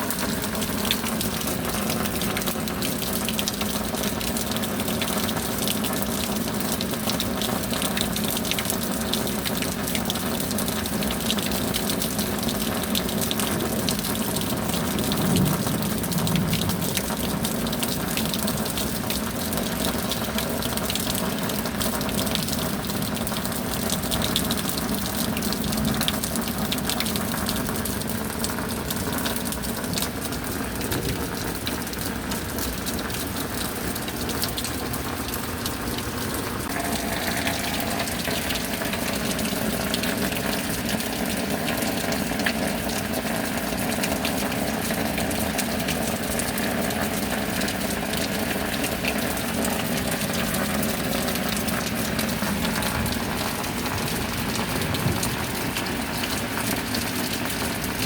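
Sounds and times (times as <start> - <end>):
rain: 0.0 - 58.0
water gushing: 0.0 - 58.0.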